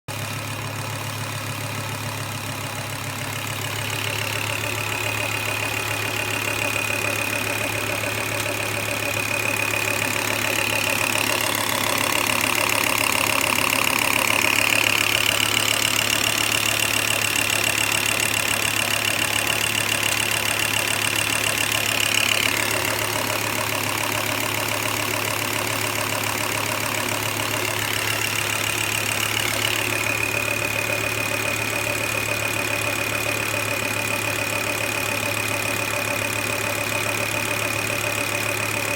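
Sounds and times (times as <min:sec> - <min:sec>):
car engine idling: 0:00.1 - 0:38.9
lifter ticking: 0:01.0 - 0:38.9.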